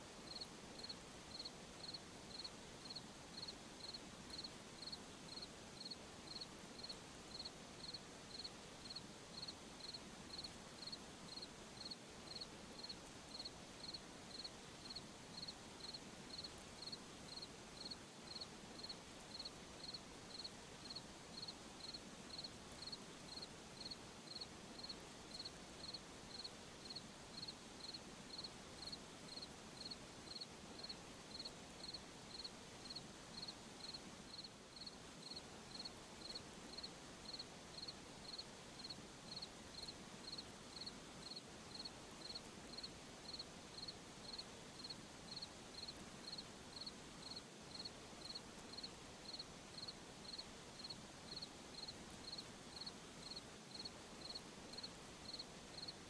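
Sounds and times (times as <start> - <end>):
faint hiss: 0.0 - 56.0
cricket chirping: 0.3 - 56.0.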